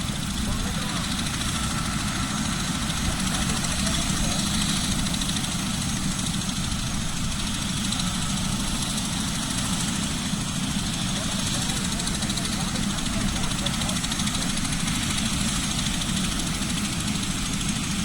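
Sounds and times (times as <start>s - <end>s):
helicopter engine running: 0.0s - 18.0s.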